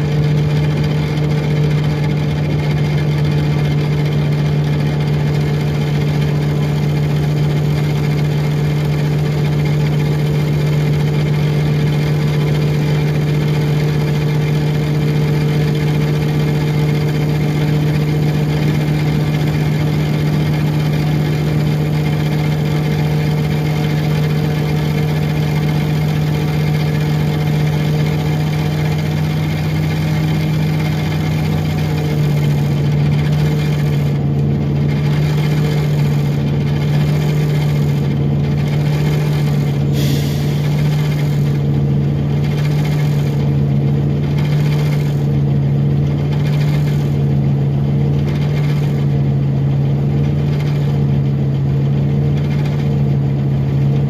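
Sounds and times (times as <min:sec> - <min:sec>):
bus engine low hum: 0:00.0 - 0:54.0.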